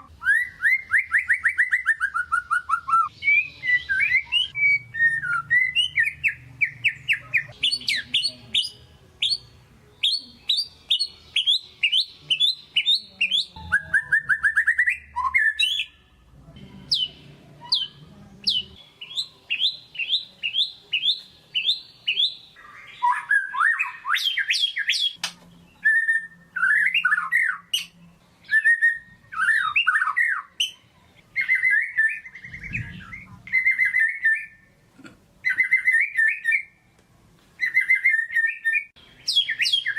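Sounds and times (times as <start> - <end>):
songbird singing: 0.0 - 34.8, 35.4 - 36.8, 37.6 - 39.9.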